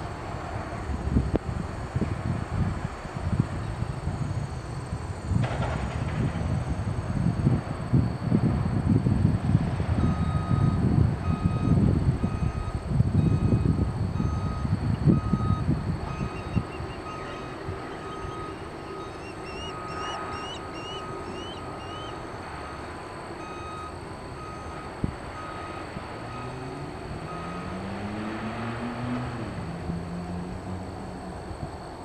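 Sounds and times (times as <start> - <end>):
low engine drone: 0.0 - 32.0
vehicle reversing alarm beeping: 0.0 - 32.0
wind buffeting microphone: 0.0 - 32.0.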